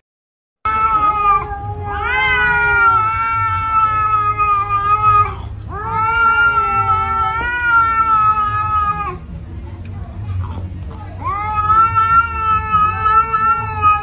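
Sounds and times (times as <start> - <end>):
cat yowling: 0.7 - 9.2, 11.2 - 14.0.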